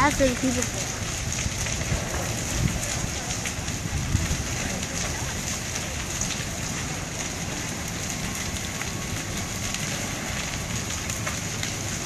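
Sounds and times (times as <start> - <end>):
fire crackling and popping: 0.0 - 12.0
fire rushing hiss: 0.0 - 12.0.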